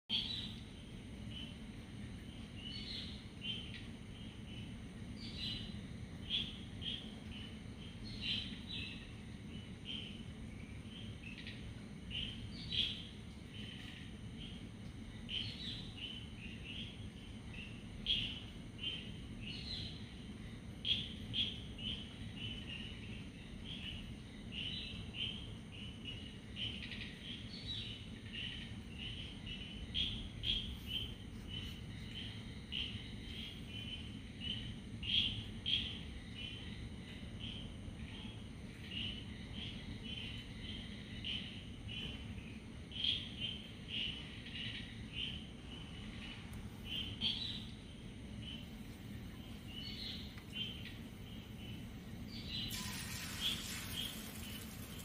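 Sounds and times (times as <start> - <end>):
low background hum: 0.1 - 55.0
small birds chirping: 0.1 - 55.0.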